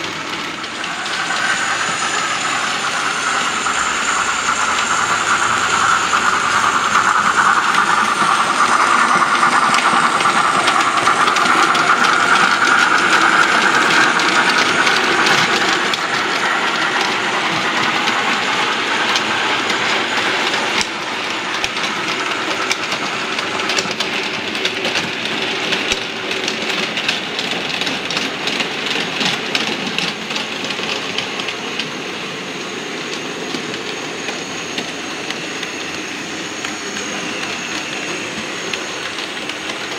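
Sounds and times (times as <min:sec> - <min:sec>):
model train running whir: 0:00.0 - 0:39.9.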